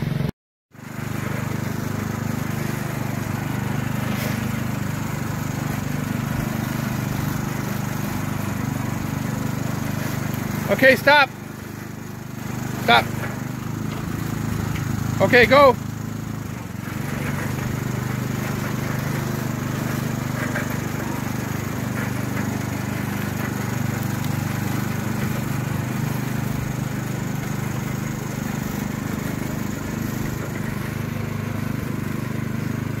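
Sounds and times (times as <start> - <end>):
garden tractor engine running: 0.0 - 33.0.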